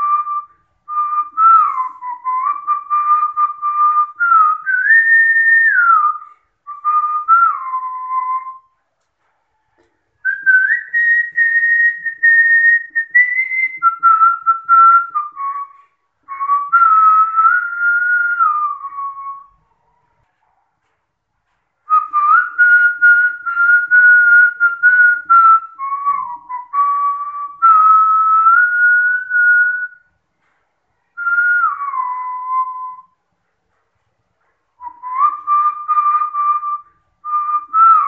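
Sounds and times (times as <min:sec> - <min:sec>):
person whistling a melody: 0:00.0 - 0:08.7, 0:10.2 - 0:19.6, 0:21.9 - 0:30.1, 0:31.2 - 0:33.2, 0:34.8 - 0:38.0.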